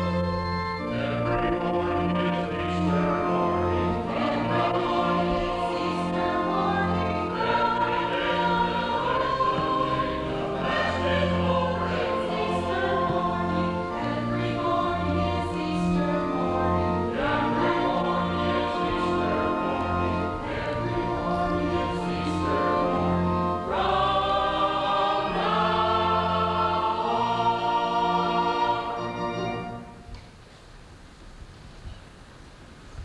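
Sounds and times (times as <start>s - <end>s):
choir singing a hymn: 0.0s - 30.1s
organ accompaniment: 0.0s - 30.3s.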